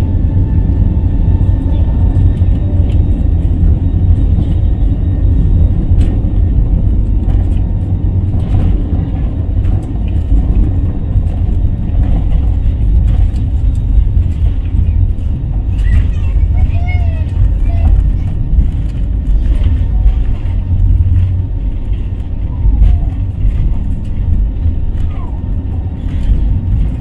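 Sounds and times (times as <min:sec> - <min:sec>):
jet engine and wheels rumbling: 0:00.0 - 0:27.0.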